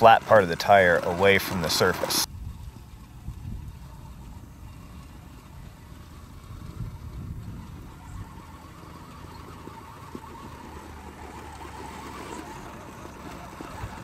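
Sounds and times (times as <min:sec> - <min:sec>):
toy truck electric motors whining: 0:00.0 - 0:14.0.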